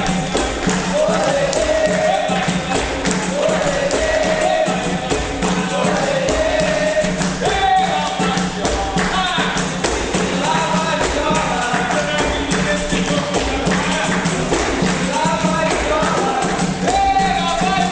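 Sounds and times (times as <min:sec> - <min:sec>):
rhythmic hand percussion: 0:00.0 - 0:17.9
voices singing a melody: 0:00.0 - 0:17.9.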